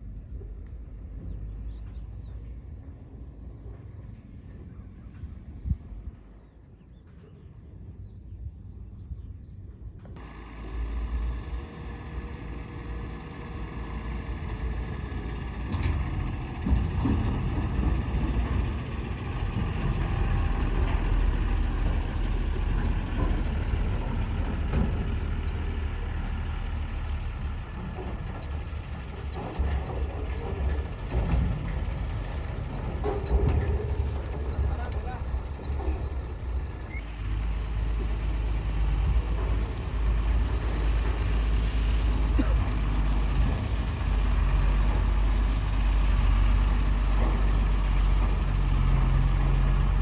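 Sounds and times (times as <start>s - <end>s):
diesel engine rumbling: 0.0s - 50.0s.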